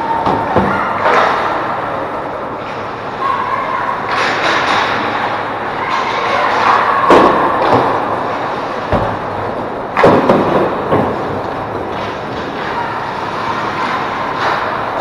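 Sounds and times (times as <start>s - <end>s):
steady rink hum: 0.0s - 15.0s.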